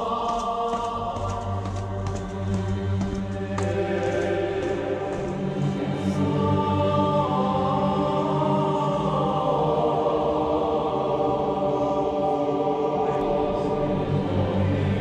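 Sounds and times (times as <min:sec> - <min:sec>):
choir holding long chords: 0:00.0 - 0:15.0.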